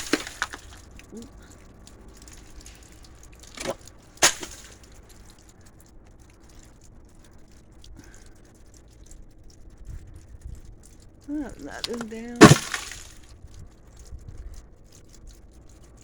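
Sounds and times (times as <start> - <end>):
faint background hiss: 0.0 - 16.0
icicles cracking: 0.0 - 16.0.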